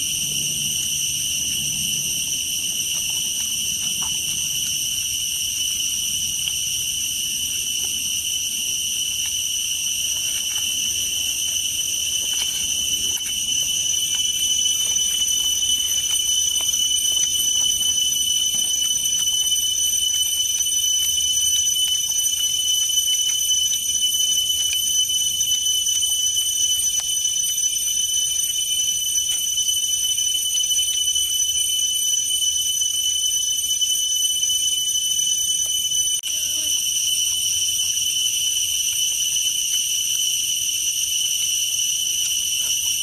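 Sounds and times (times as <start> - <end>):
insect chorus drone: 0.0 - 43.0.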